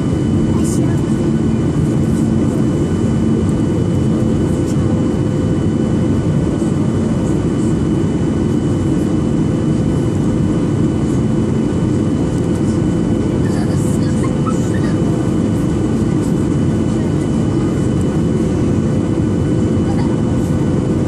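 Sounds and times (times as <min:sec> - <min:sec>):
jet engines and airflow rushing: 0:00.0 - 0:21.0
steady hums: 0:00.0 - 0:21.0.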